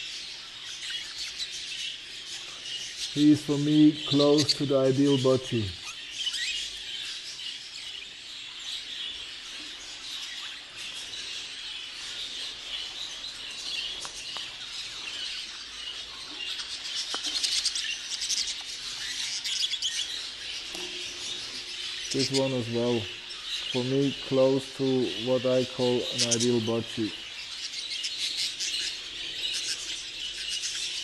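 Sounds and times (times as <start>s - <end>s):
budgerigars chattering and chirping: 0.0s - 31.0s.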